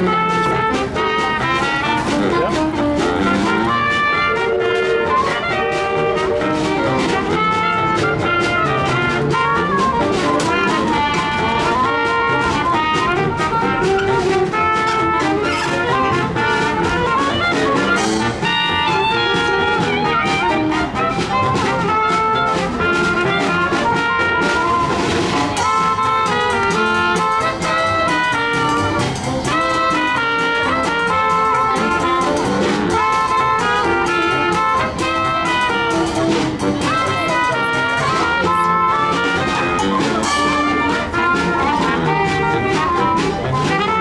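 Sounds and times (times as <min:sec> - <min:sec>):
clarinet: 0:00.0 - 0:44.0
jazz band playing live: 0:00.0 - 0:44.0
trumpet: 0:00.0 - 0:44.0.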